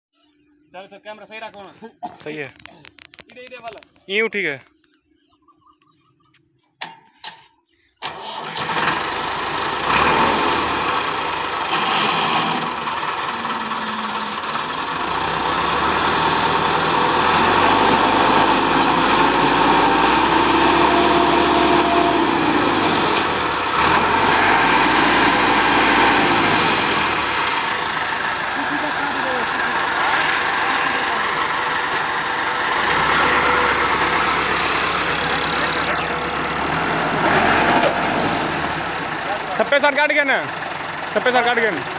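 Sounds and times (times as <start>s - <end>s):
tractor diesel engine revving: 8.0s - 41.9s.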